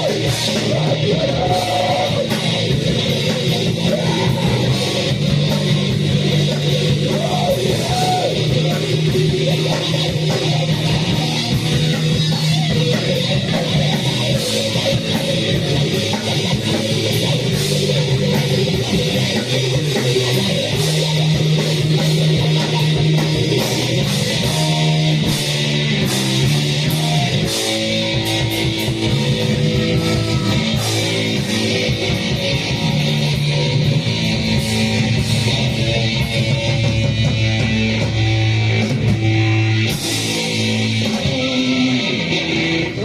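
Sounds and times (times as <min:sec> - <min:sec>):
distorted guitar riffs: 0:00.0 - 0:43.0
drums with cymbal crashes: 0:00.0 - 0:43.0.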